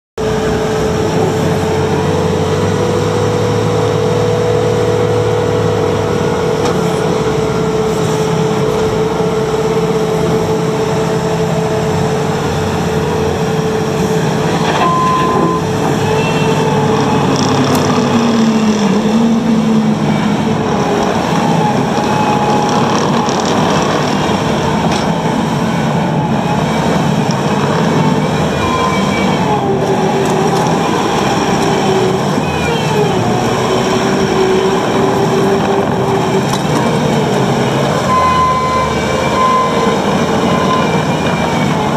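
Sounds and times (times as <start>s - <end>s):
diesel engine under load: 0.2s - 41.9s
track loader whining and squealing: 0.2s - 41.9s.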